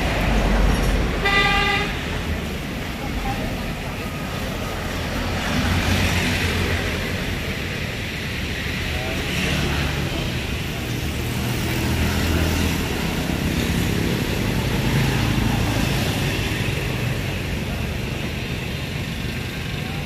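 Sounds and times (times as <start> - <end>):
motorbike engines passing: 0.0 - 20.0.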